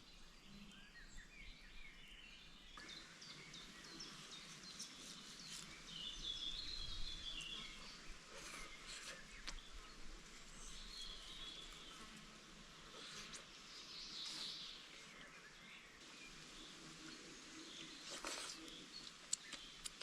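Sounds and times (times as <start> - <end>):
birds chirping: 0.0 - 20.0
faint background hiss: 0.0 - 20.0.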